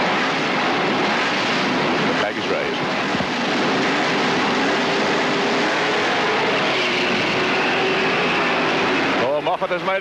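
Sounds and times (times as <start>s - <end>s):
many car engines revving: 0.0s - 10.0s.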